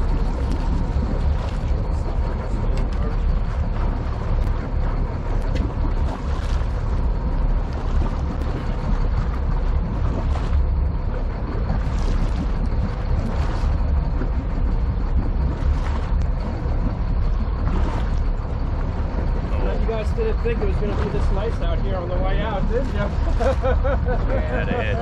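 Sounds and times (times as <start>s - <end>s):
boat engine rumbling: 0.0s - 25.0s
water and wind noise: 0.0s - 25.0s.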